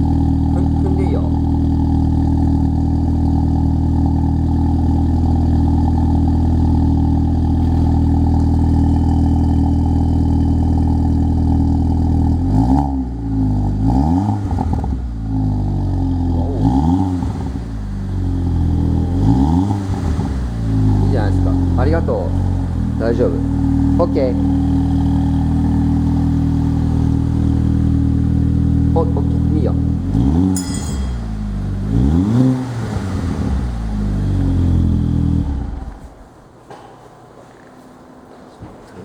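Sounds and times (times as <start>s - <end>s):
engine throttle blips: 0.0s - 36.5s
car engine idling: 0.0s - 37.3s.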